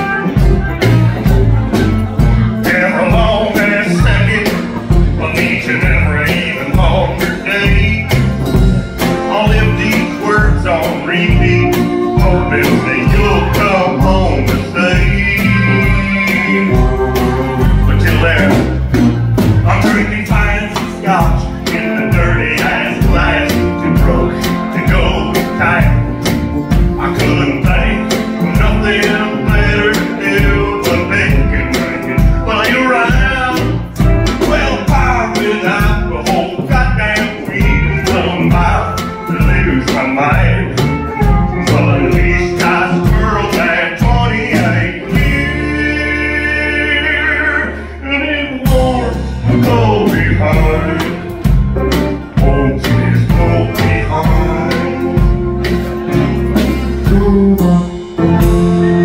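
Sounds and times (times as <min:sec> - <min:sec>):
drum kit beat: 0:00.0 - 0:47.6, 0:48.4 - 0:59.0
acoustic guitar: 0:00.0 - 0:59.0
electric bass: 0:00.0 - 0:59.0.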